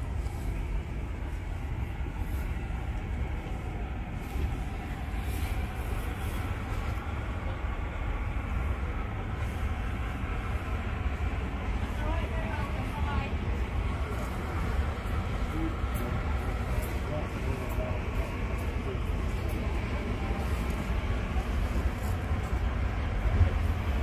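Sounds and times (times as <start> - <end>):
indoor shop rumble: 0.0 - 24.0.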